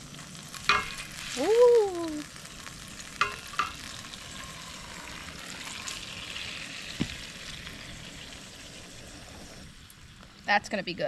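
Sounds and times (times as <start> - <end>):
steak sizzling in a pan: 0.0 - 10.8.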